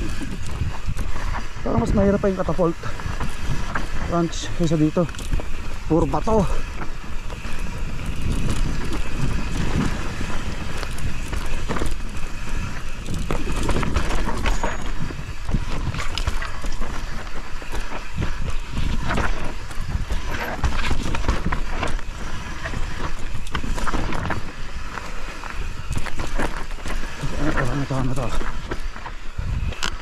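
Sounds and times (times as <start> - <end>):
bike rattling over bumps: 0.0 - 30.0
tyres crunching over dirt and stones: 0.0 - 30.0
wind rumble on microphone: 0.0 - 30.0.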